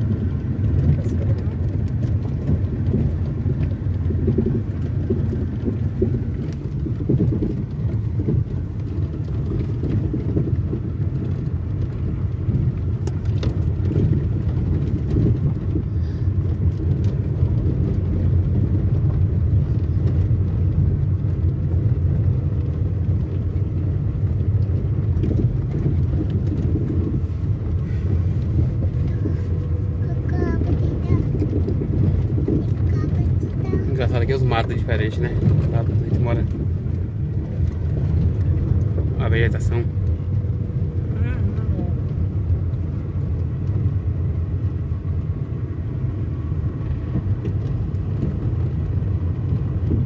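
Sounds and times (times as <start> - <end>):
car engine and tyre rumble: 0.0 - 50.0.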